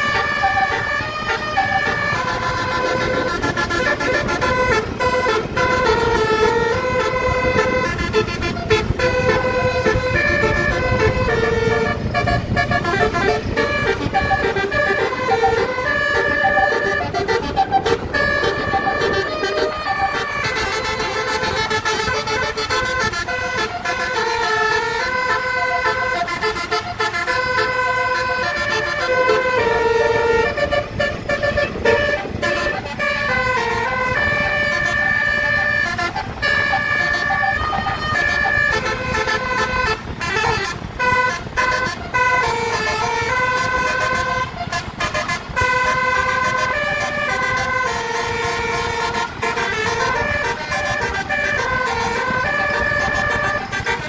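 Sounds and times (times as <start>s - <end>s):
bus air horn melody: 0.0s - 54.0s
low rumble of bus and road: 0.0s - 54.0s.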